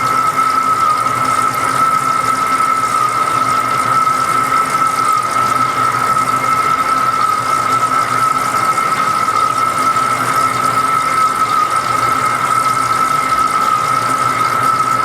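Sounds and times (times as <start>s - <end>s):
lathe running: 0.0s - 15.0s.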